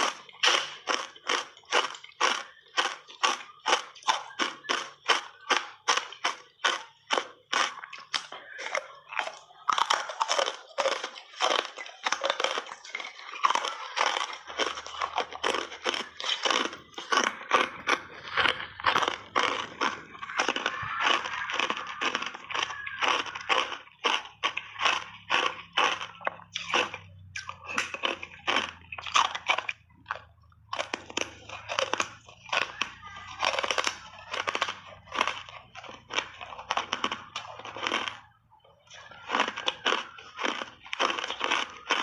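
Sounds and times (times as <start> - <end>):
ice being crunched and chewed: 0.0 - 42.0.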